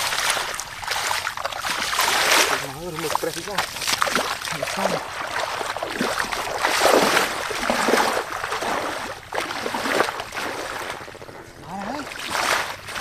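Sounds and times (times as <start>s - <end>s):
splashing in muddy water: 0.0s - 13.0s.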